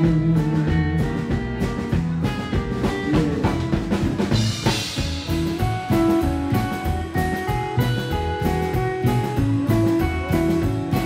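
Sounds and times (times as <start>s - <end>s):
drum kit steady beat: 0.0s - 11.0s
electric guitar: 0.0s - 11.0s
upright double bass: 0.0s - 11.0s.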